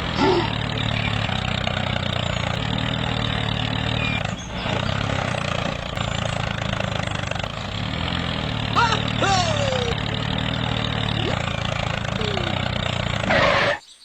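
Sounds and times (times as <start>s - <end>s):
small engine running: 0.0s - 13.8s.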